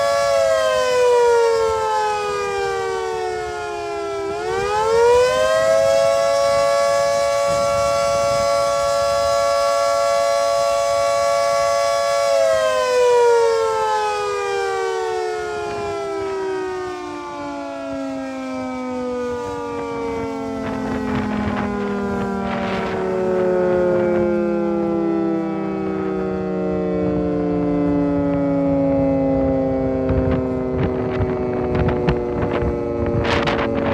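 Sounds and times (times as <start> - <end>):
rotating siren wailing: 0.0 - 33.9.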